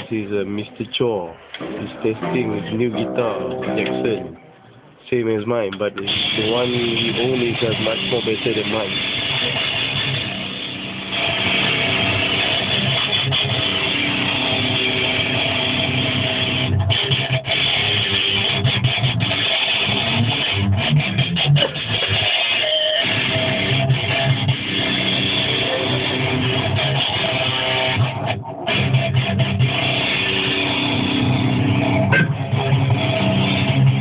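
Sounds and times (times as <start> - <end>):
electric guitar strumming chords: 1.6 - 4.6, 6.0 - 34.0.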